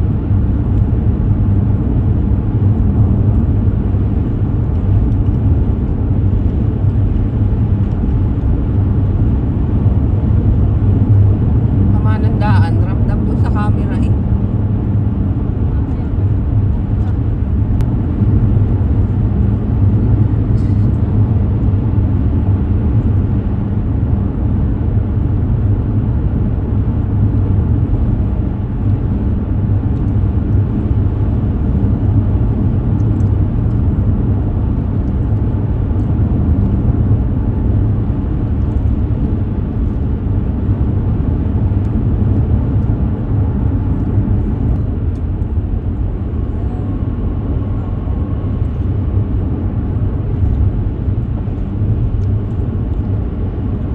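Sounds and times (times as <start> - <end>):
road and engine noise in car: 0.0 - 53.9.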